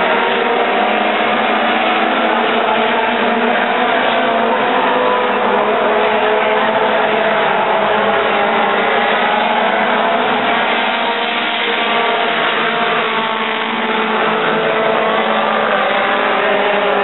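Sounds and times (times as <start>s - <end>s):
race car engines running hard: 0.0s - 17.0s.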